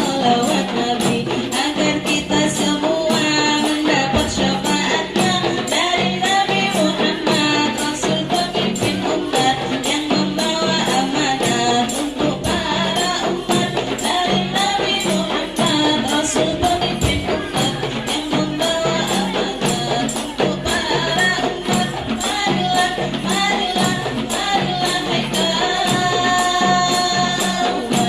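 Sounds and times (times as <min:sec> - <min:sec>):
frame drums with jingles: 0:00.0 - 0:28.0.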